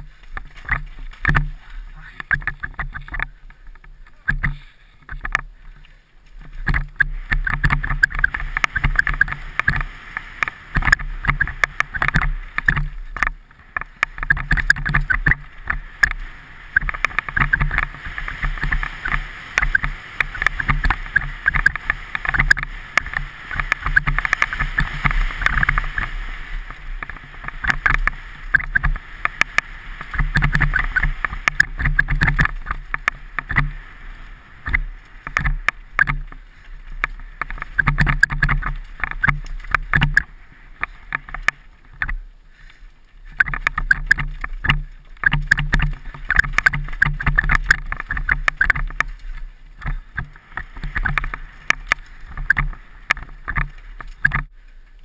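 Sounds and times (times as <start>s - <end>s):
rapid rattling and knocking: 0.0s - 1.6s, 6.4s - 26.1s, 26.7s - 33.8s, 34.6s - 36.4s, 37.0s - 42.2s, 43.4s - 49.2s, 49.8s - 54.5s.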